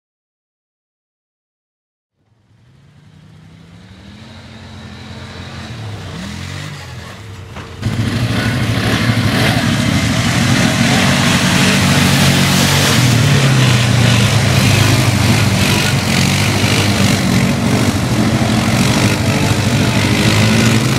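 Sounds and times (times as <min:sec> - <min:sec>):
atv engine revving: 0:02.4 - 0:20.9.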